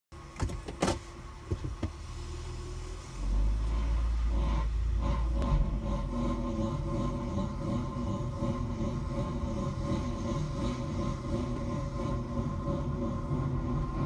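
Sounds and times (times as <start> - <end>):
car low rumble: 0.1 - 14.0.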